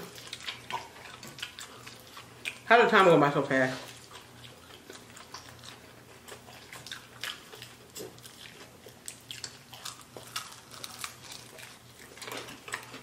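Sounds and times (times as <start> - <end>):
people chewing fried chicken: 0.0 - 13.0.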